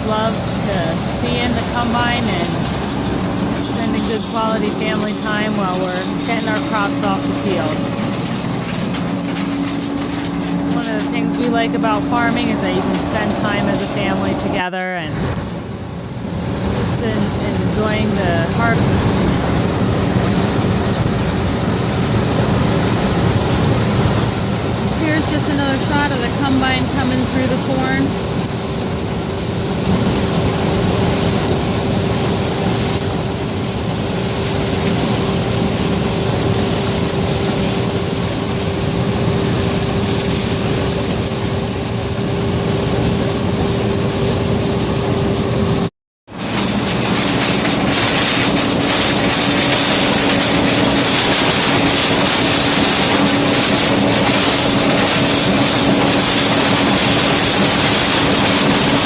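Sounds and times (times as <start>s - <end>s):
combine harvester drone: 0.0s - 59.0s.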